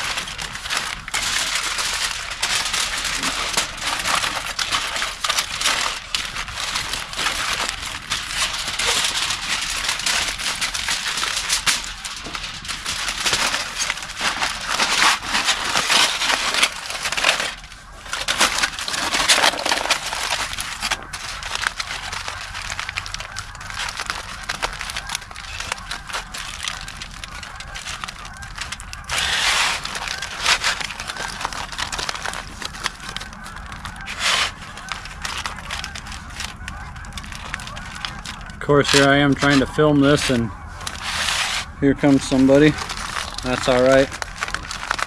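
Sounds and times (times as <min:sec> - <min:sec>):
aluminium foil crinkling: 0:00.0 - 0:45.0.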